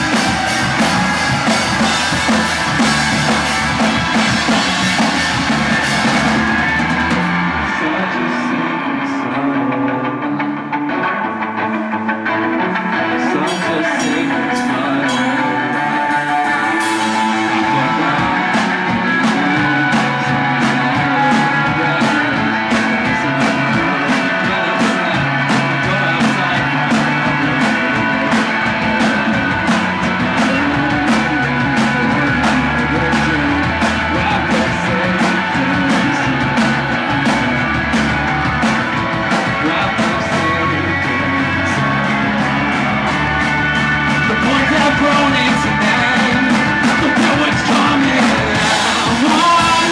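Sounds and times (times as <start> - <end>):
bass guitar: 0.0 - 49.9
drum kit beats: 0.0 - 49.9
electric guitars: 0.0 - 49.9.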